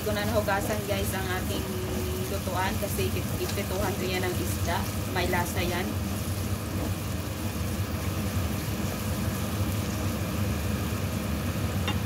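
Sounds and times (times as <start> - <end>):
spatula stirring in pan: 0.0 - 9.9
onion sizzling in oil: 0.0 - 12.0
steady low hum: 0.0 - 12.0.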